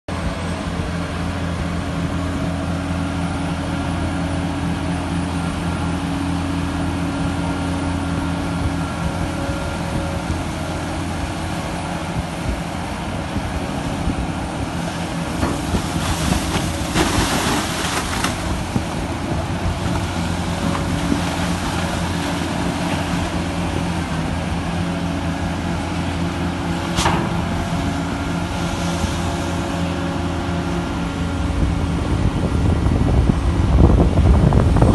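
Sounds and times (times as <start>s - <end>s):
diesel engines droning: 0.1s - 34.9s.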